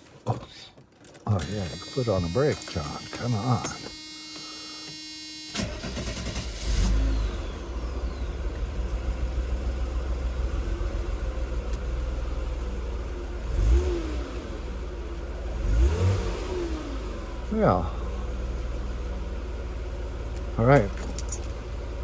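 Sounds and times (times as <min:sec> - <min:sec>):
car engine idling and revving: 0:00.5 - 0:22.0.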